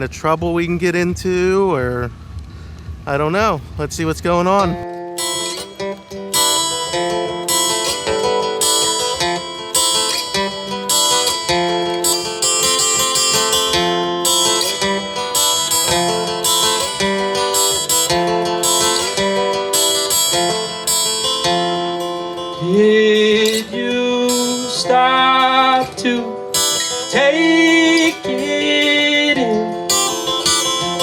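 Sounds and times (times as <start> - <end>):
acoustic guitar strumming chords: 2.9 - 31.0.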